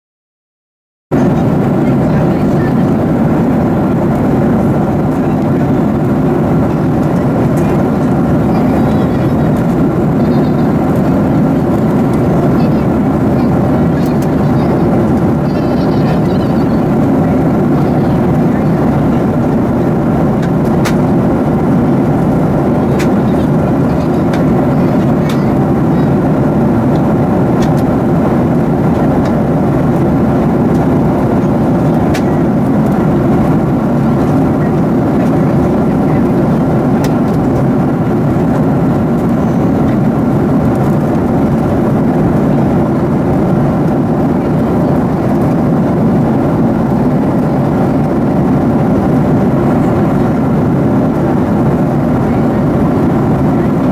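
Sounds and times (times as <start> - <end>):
airplane cabin drone: 1.1 - 53.9.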